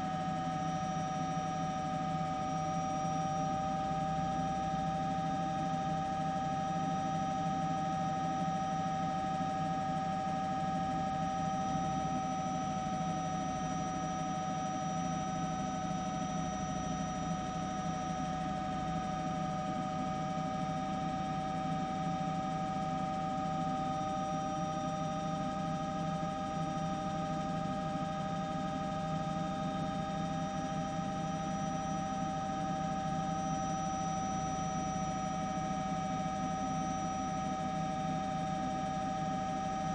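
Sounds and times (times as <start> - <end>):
machine hum with whining tones: 0.0 - 39.9.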